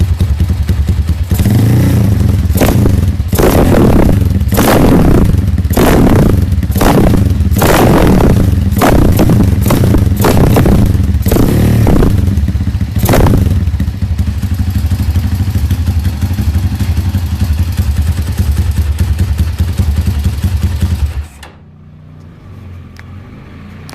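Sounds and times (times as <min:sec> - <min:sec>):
motorcycle engine revving and idling: 0:00.0 - 0:23.9.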